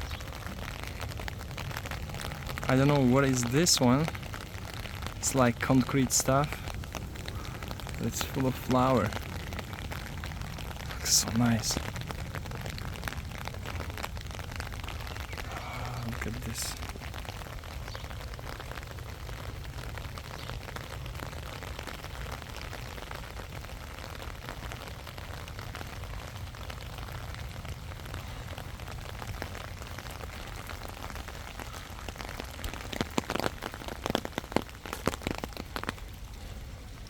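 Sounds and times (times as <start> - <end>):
fine crackling rustle: 0.0 - 37.0.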